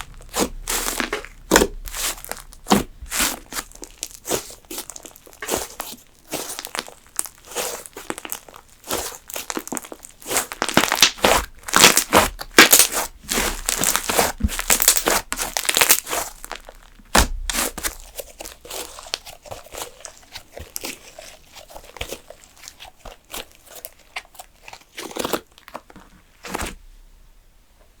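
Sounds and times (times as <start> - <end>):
slime crackling and popping: 0.0 - 26.8.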